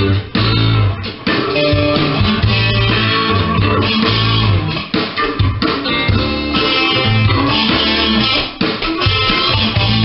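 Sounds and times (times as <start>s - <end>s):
backing track with bass and drums: 0.0s - 10.0s
electric guitar improvising: 0.0s - 10.0s.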